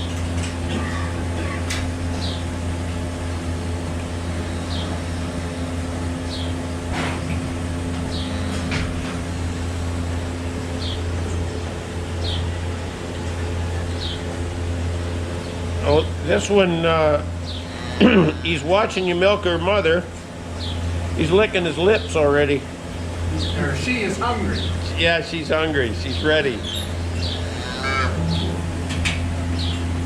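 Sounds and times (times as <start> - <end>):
low hum of barn machinery: 0.0 - 30.0.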